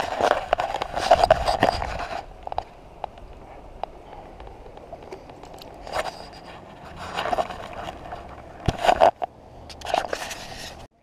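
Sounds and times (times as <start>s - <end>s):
clothing and gear rustling: 0.0s - 9.2s.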